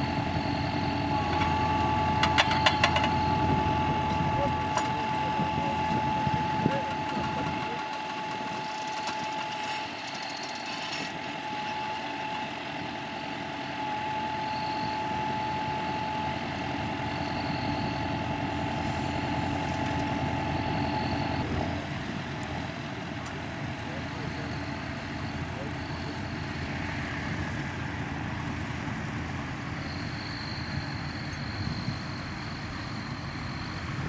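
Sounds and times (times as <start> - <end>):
steady high whine: 0.0 - 34.0
tractor diesel engine under load: 0.0 - 34.0.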